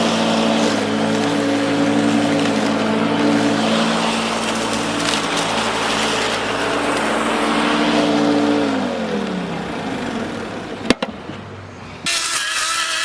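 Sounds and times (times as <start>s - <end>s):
different motor starting: 0.0s - 10.8s
wood chipper motor running: 0.0s - 11.0s.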